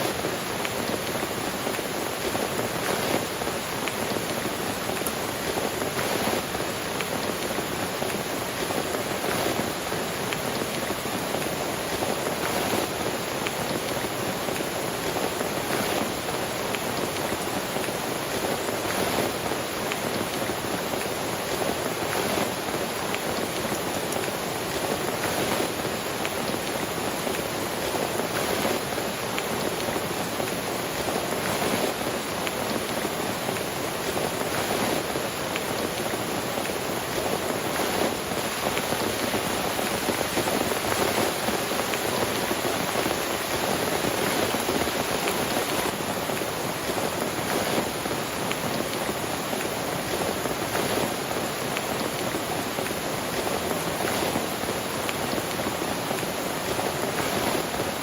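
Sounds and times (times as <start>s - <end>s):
rain on a tent: 0.0s - 58.0s.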